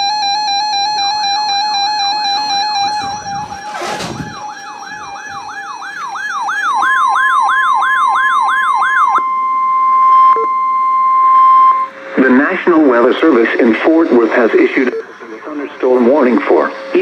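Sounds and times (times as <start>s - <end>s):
steady warning alarm tone: 0.0s - 17.0s
warbling siren-like alert: 0.0s - 17.0s.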